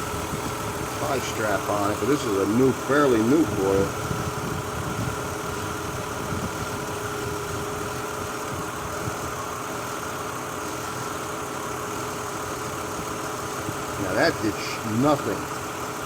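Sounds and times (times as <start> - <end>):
car engine idling roughly: 0.0 - 16.0.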